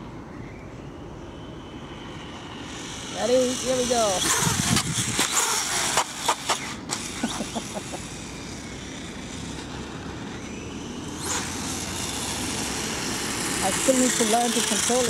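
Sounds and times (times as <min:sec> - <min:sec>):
electric motor and tyres hissing: 0:00.8 - 0:15.0.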